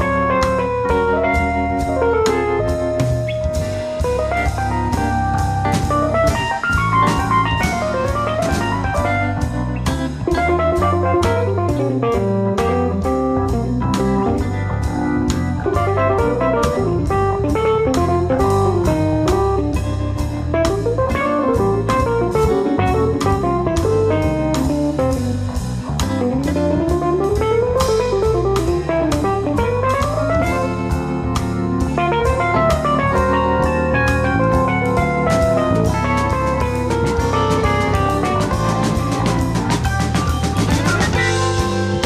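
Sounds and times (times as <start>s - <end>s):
bass: 0.0s - 42.0s
lead melody: 0.0s - 42.0s
steady drum beat: 0.0s - 42.0s.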